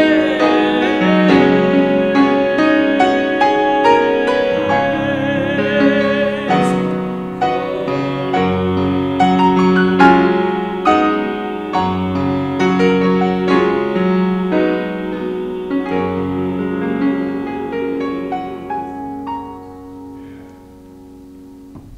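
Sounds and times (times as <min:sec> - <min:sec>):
grand piano playing: 0:00.0 - 0:21.9.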